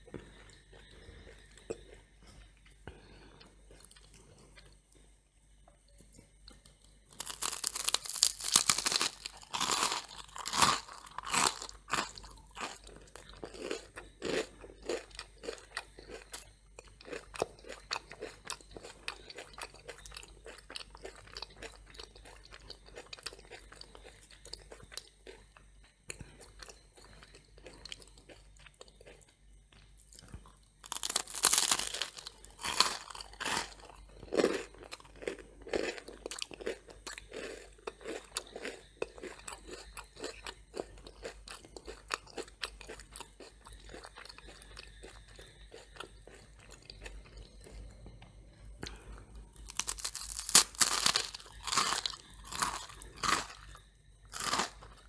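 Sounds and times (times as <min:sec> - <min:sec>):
toast crunching being chewed: 0:00.0 - 0:05.1, 0:05.9 - 0:55.0.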